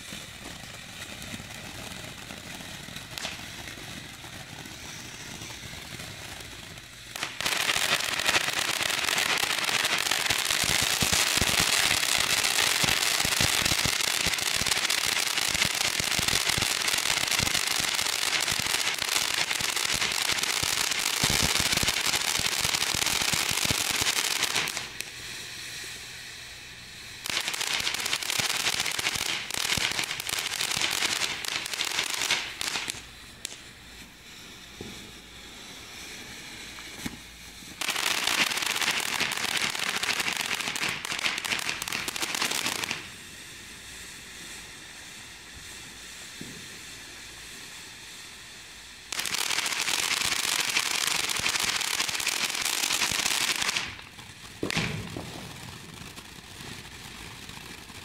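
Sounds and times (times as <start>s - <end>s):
fireworks hissing and crackling: 0.0s - 58.0s.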